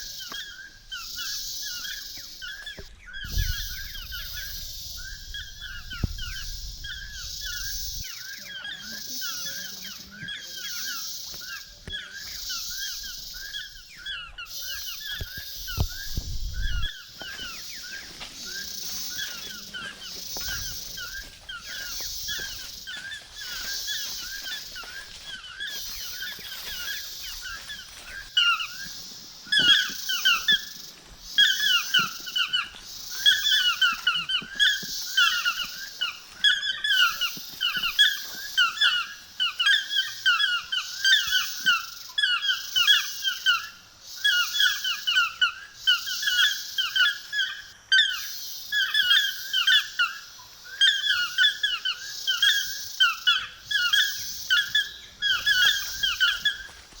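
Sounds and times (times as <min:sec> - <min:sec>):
squeaky chirping calls: 0:00.0 - 0:56.9
high insect-like hiss: 0:00.0 - 0:57.0.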